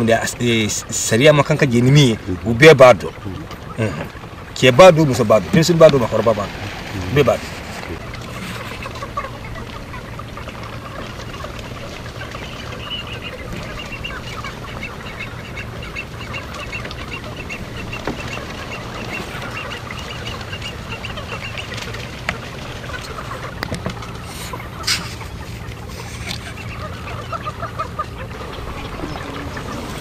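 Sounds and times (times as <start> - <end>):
birds calling high notes: 0.0 - 30.0
low steady hum: 0.0 - 30.0.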